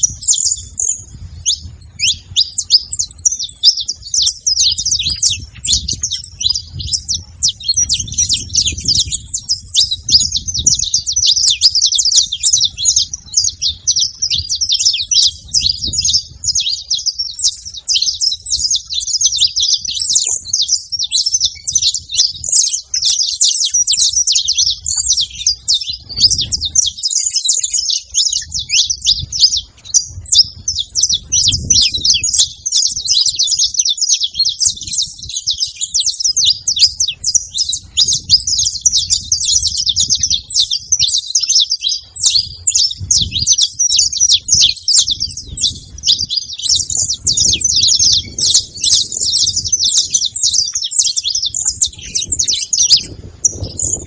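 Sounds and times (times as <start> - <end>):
flock of finches chirping: 0.0 - 54.0.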